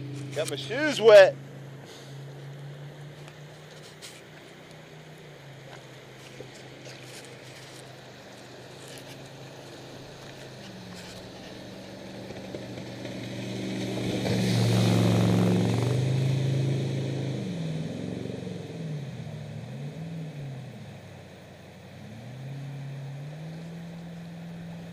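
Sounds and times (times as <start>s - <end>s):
jet boat engine: 0.0s - 24.9s.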